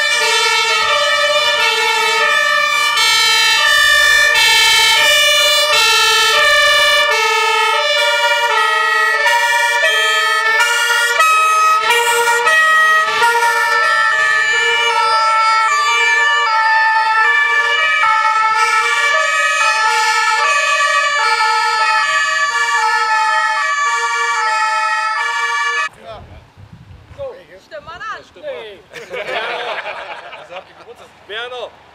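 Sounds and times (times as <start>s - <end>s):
two-tone fire engine siren: 0.0s - 25.9s.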